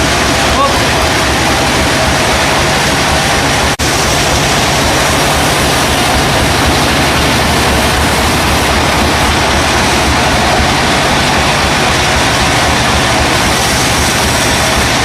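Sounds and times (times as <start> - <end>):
low engine rumble: 0.0 - 15.0
sawmill machinery running: 0.0 - 15.0.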